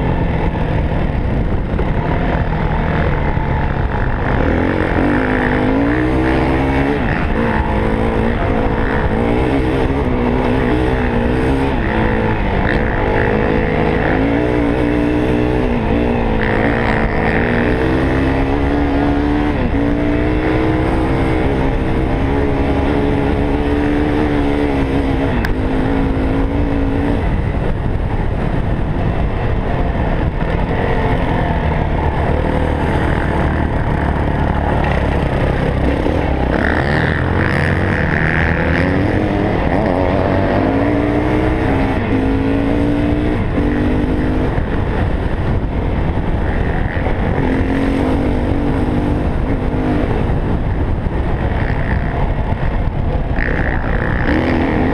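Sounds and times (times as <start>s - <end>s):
dirt bike engine revving: 0.0s - 54.9s
low rushing noise: 0.0s - 54.9s.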